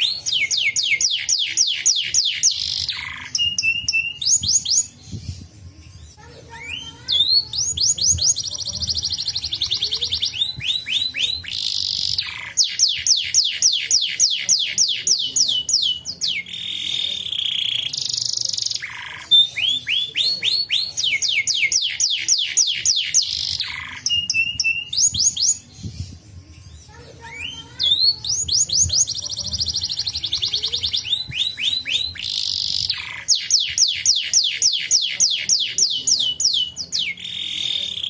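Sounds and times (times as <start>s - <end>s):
canary singing: 0.0s - 38.0s.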